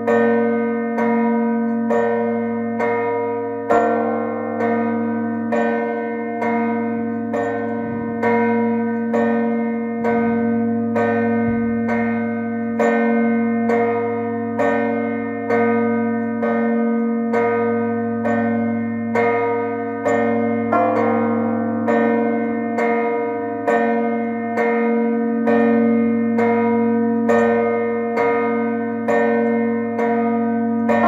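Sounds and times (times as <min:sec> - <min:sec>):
church bells pealing: 0:00.0 - 0:31.0.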